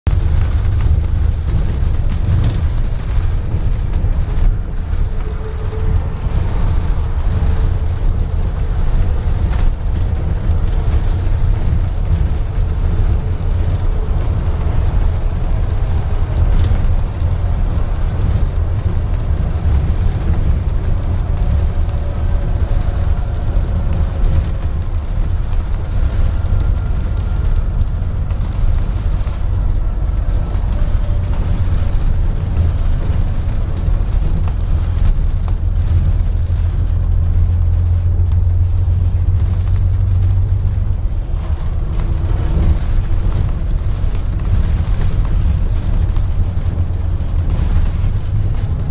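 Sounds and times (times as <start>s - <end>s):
bus engine rumbling: 0.0s - 48.9s.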